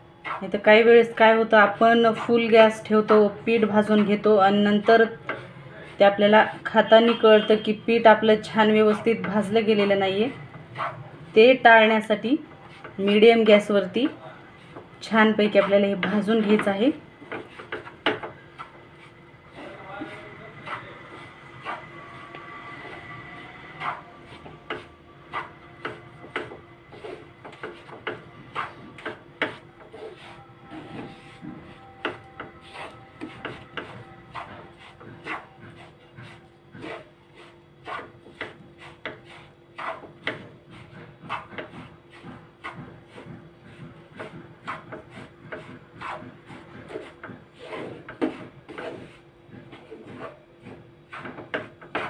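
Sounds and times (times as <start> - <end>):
wooden spatula scraping a pan: 0.2 - 52.0.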